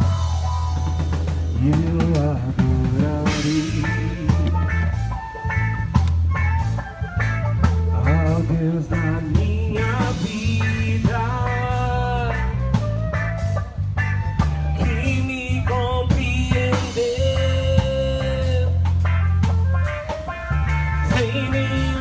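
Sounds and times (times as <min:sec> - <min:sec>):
music with drums and heavy bass: 0:00.0 - 0:22.0.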